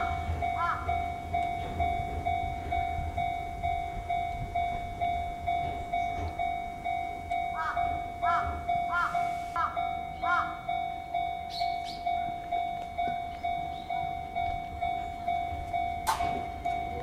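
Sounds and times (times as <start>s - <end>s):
higher-pitched ringing: 0.0s - 17.0s
level-crossing warning bell: 0.0s - 17.0s
train rumbling past: 0.0s - 17.0s.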